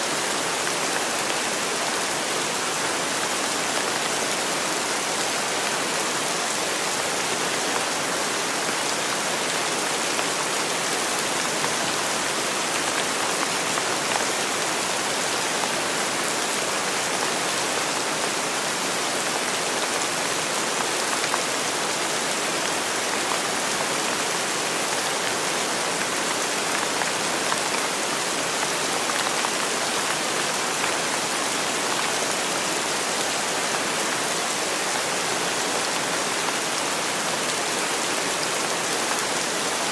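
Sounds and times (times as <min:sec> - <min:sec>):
steady rain pattering: 0:00.1 - 0:39.9.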